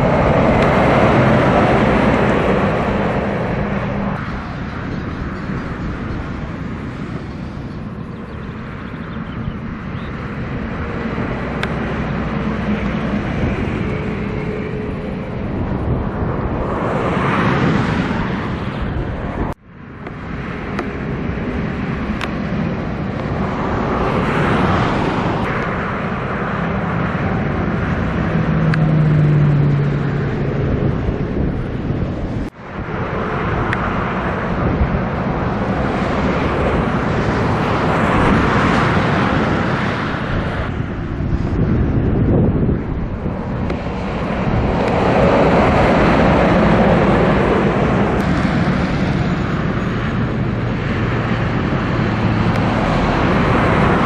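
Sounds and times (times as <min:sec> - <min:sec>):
truck engine and tyre noise: 0:00.0 - 0:54.0.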